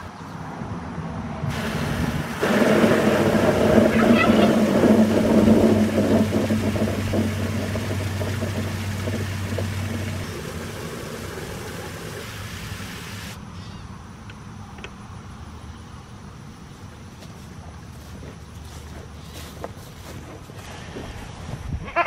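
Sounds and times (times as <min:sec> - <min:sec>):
engine low hum: 0:01.5 - 0:21.4.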